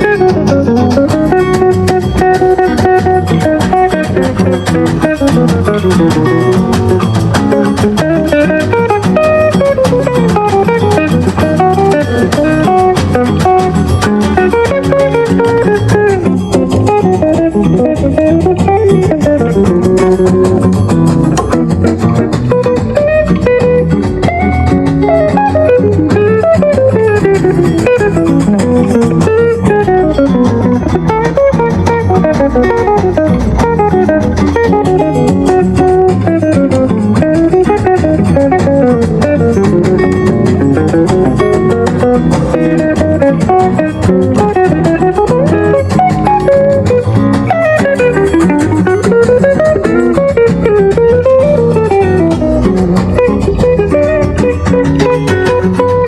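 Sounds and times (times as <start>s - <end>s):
latin jazz guitar over speaker: 0.0s - 56.0s
steady bass: 0.0s - 56.0s.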